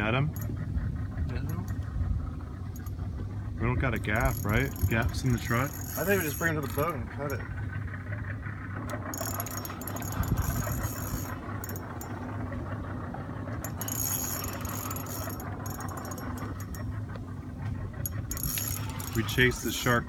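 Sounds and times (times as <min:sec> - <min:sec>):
outboard motor running: 0:00.0 - 0:20.0
fishing reel clicking whir: 0:00.3 - 0:00.8, 0:01.4 - 0:20.0.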